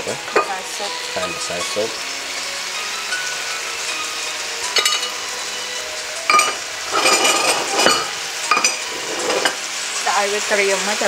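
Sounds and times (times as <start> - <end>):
utensils clinking against pan: 0.0 - 2.4, 3.0 - 10.1
meat sizzling in a pot: 0.0 - 11.0.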